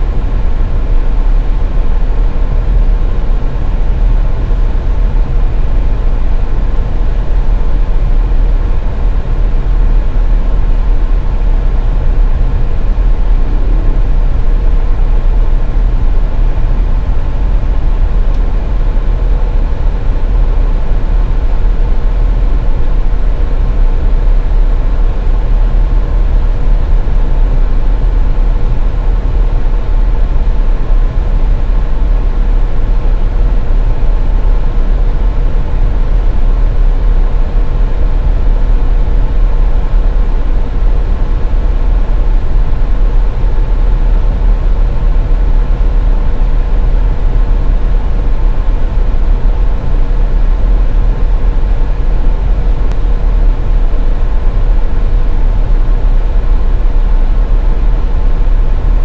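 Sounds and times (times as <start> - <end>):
faint steady hum: 0.0 - 59.0
low rumble of road and engine: 0.0 - 59.0.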